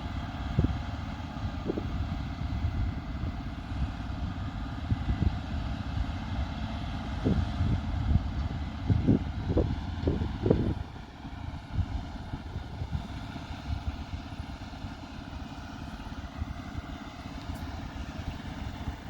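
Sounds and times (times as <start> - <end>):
combine harvester rumbling: 0.0 - 19.0.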